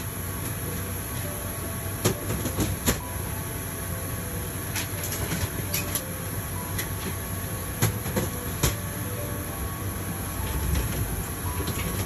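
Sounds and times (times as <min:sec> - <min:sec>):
ventilation hum: 0:00.0 - 0:12.0.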